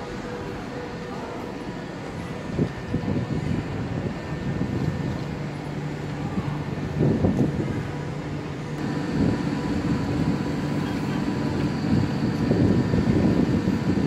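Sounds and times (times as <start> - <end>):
electric train humming: 0.0 - 14.0
faint constant whining tones: 0.0 - 14.0.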